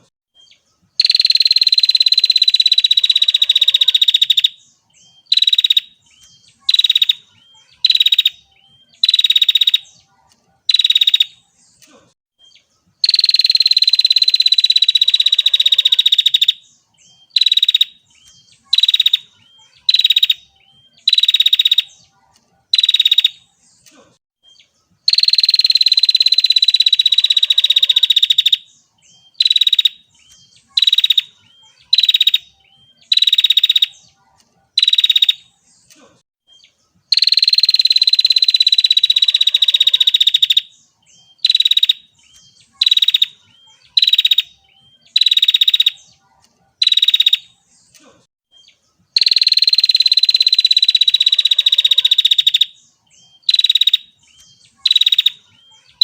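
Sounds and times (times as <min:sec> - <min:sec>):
bird buzzy trill calls: 0:00.0 - 0:10.0, 0:10.7 - 0:11.6, 0:12.4 - 0:22.1, 0:22.7 - 0:23.9, 0:24.5 - 0:34.2, 0:34.8 - 0:46.2, 0:46.8 - 0:47.6, 0:48.6 - 0:56.0.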